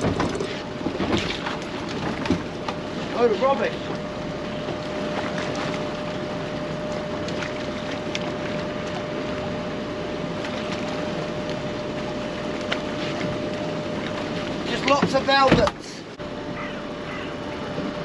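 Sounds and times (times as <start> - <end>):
boat engine running: 0.0 - 18.0
thin steady whine: 0.0 - 18.0.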